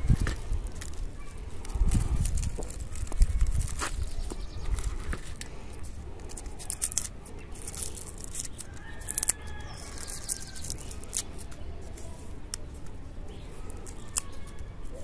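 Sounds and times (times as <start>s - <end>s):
dry leaves crackling and snapping: 0.0s - 15.0s.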